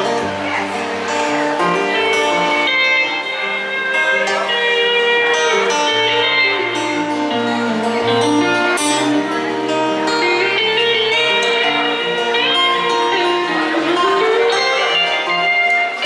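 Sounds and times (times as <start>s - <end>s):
acoustic guitar strumming: 0.0s - 16.0s
steel guitar sliding notes: 0.0s - 16.0s.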